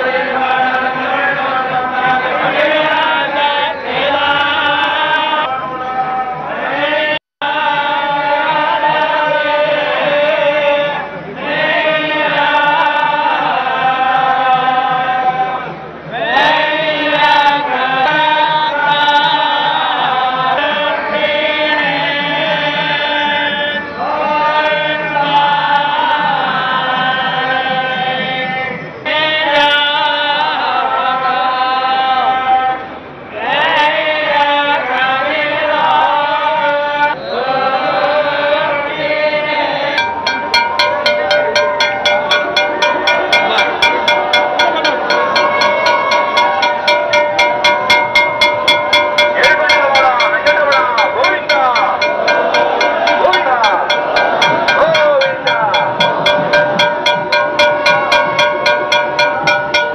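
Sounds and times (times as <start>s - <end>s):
group chanting hymn: 0.0s - 59.9s.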